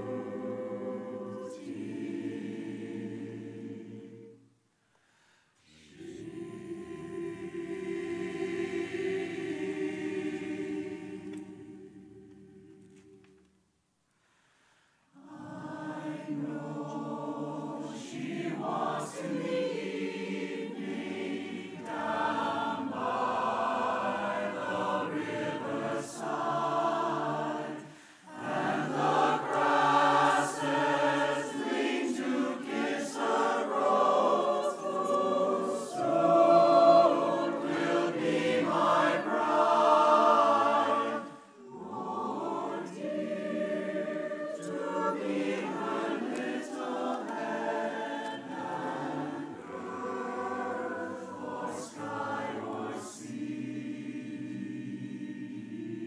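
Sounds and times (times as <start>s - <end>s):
mixed choir singing: 0.0s - 4.5s, 5.6s - 13.5s, 15.1s - 56.0s.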